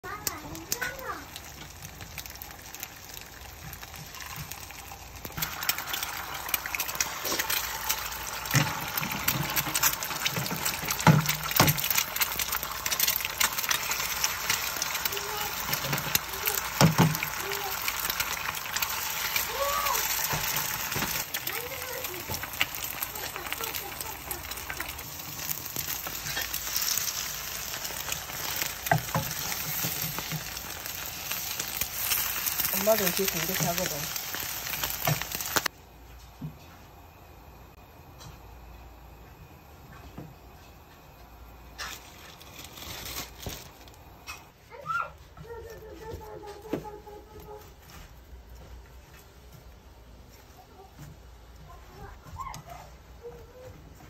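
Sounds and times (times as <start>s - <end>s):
eggs sizzling in frying pan: 0.0s - 54.0s.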